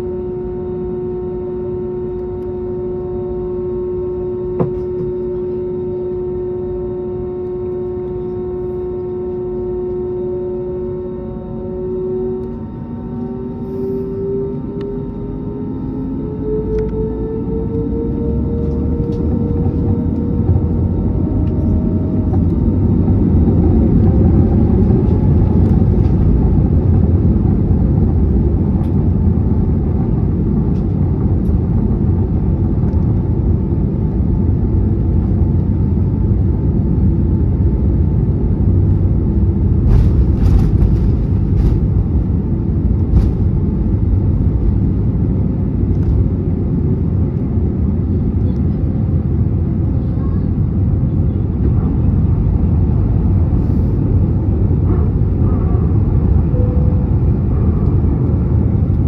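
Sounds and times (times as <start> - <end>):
airplane cabin engine rumble: 0.0 - 59.0
faint engine tone: 0.0 - 59.0.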